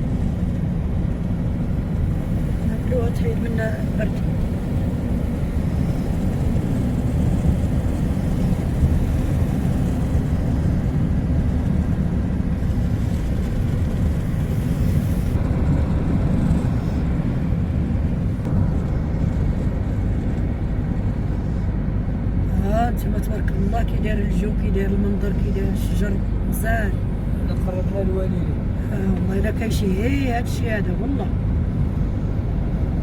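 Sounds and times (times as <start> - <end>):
vehicle engine and road noise: 0.0 - 33.0.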